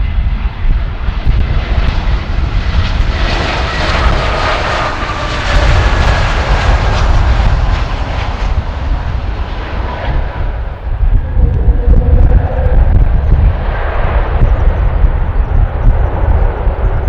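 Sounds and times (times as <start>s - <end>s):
faint whine dropping in pitch: 0.0s - 17.0s
jet engines landing: 0.0s - 17.0s
wind buffeting microphone: 0.0s - 17.0s.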